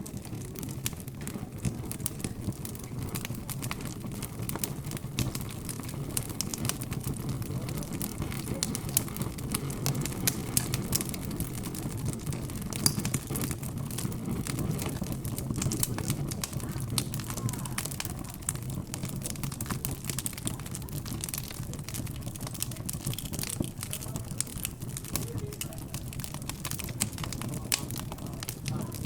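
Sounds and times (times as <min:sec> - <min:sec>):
background chatter: 0:00.0 - 0:29.0
wood fire crackling: 0:00.0 - 0:29.0.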